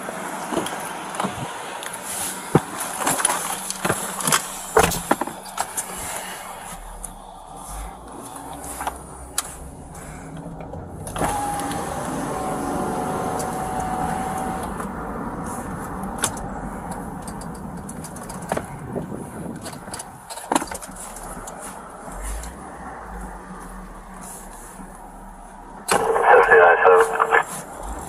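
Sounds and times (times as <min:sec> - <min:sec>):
car interior vehicle noise: 0:00.0 - 0:28.0
steady whine: 0:01.8 - 0:20.0, 0:20.8 - 0:28.0.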